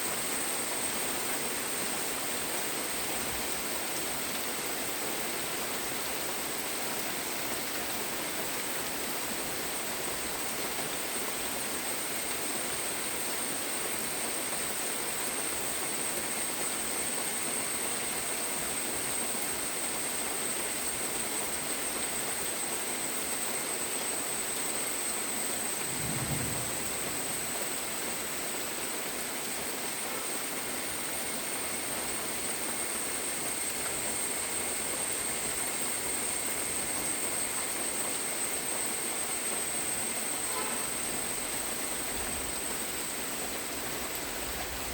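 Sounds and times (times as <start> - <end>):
steady rainfall: 0.0 - 44.9.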